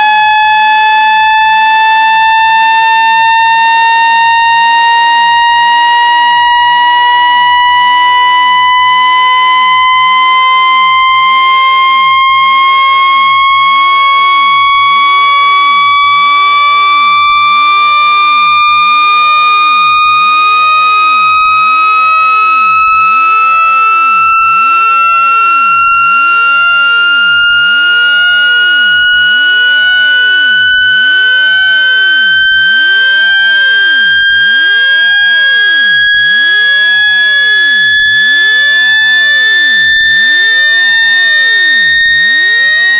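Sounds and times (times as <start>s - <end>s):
buzzy electronic tone rising in pitch: 0.0s - 10.8s, 13.4s - 42.9s.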